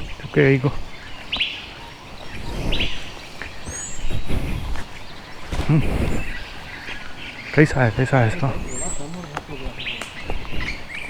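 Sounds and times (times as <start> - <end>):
birds chirping: 0.0 - 11.0
low rumbling outdoor noise: 0.0 - 11.0.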